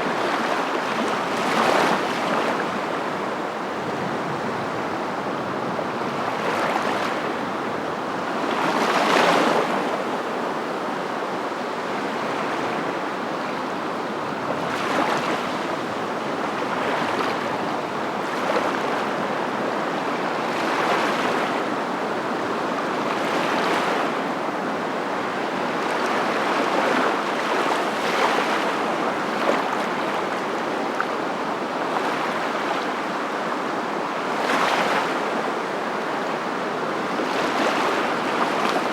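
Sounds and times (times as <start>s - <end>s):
rushing water: 0.0s - 4.3s, 4.9s - 21.8s, 22.7s - 38.9s.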